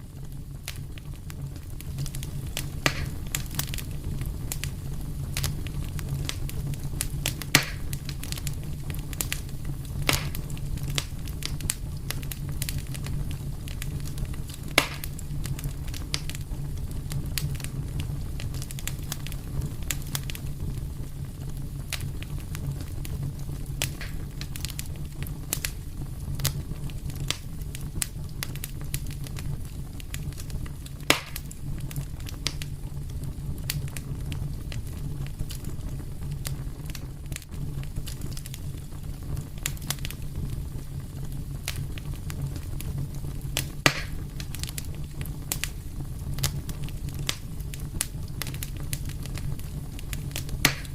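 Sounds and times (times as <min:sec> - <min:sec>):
fire crackling: 0:00.0 - 0:50.9
fire popping loudly: 0:00.1 - 0:50.9.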